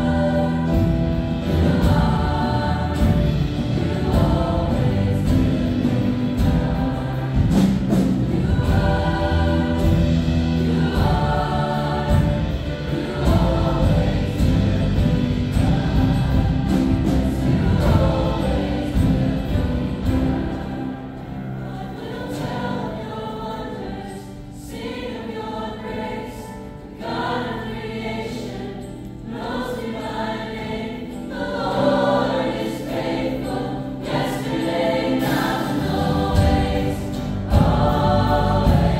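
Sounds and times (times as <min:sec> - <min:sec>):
choir singing gospel song: 0:00.0 - 0:38.9
heavy low accompaniment: 0:00.0 - 0:38.9.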